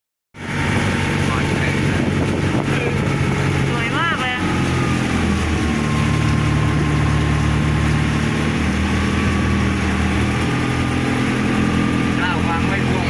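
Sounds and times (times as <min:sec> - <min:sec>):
boat engine running: 0:00.4 - 0:13.0.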